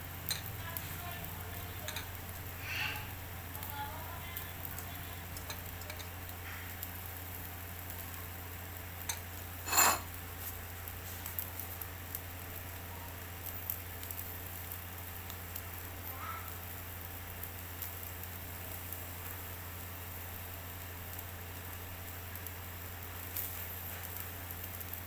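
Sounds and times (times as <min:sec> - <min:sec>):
meat sizzling over charcoal: 0:00.0 - 0:25.0.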